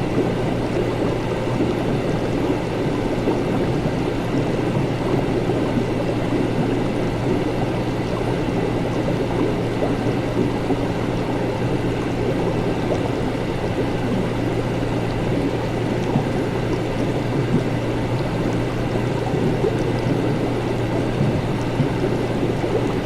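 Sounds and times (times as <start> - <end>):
constant low hum: 0.0 - 23.0
liquid bubbling: 0.0 - 23.0.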